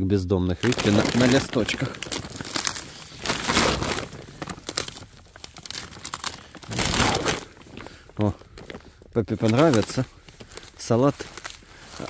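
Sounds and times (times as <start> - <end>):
cabbage leaves snapping and tearing: 0.6 - 12.0.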